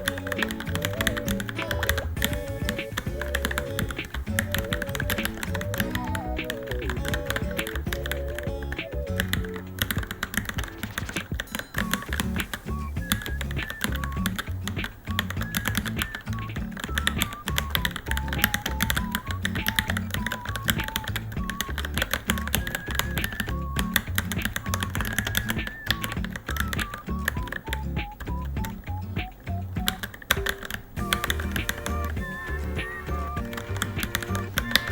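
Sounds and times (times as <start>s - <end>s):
background music: 0.0s - 34.9s.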